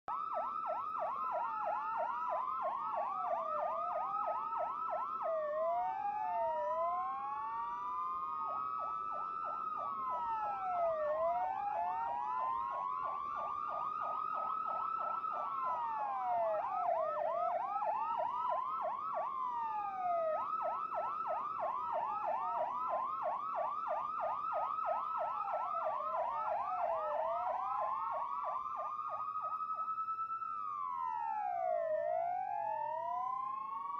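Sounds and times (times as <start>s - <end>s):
police sirens wailing: 0.1s - 33.9s
police sirens yelping: 0.1s - 33.9s.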